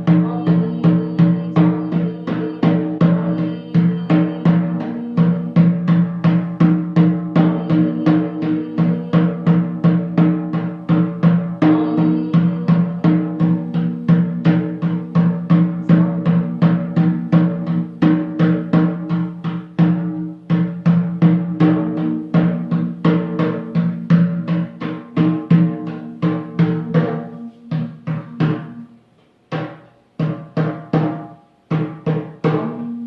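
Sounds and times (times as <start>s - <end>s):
fast drumming on deep drum: 0.0s - 28.8s.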